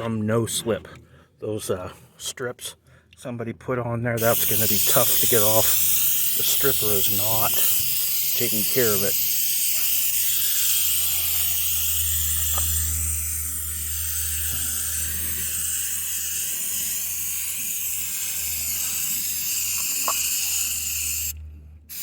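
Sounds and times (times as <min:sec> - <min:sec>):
aerosol can spraying: 0:04.2 - 0:22.0
steady low hum: 0:04.2 - 0:22.0.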